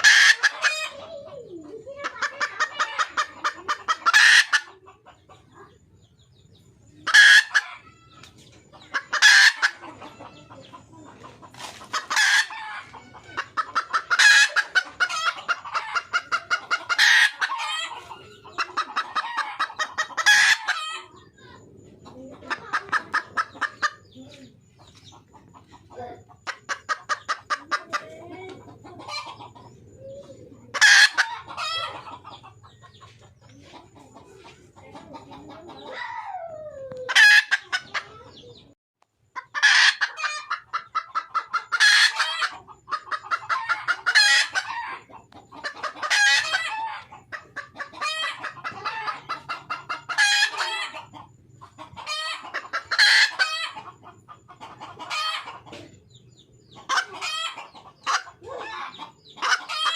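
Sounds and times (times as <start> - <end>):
hen cackling clucks: 0.0 - 59.9.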